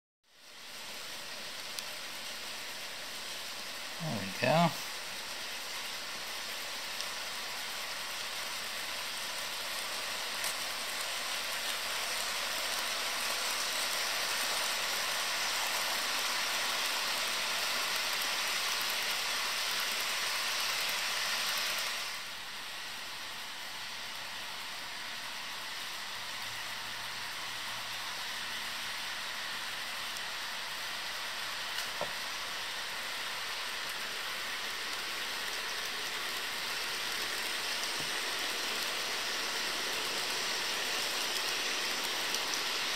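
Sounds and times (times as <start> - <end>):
model trains rolling on track: 0.4 - 42.9.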